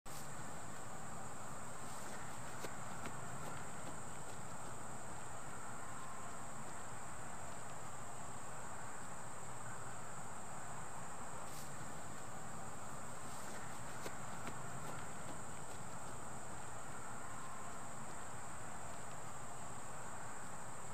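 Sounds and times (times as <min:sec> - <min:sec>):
crickets chirring: 0:00.1 - 0:20.9.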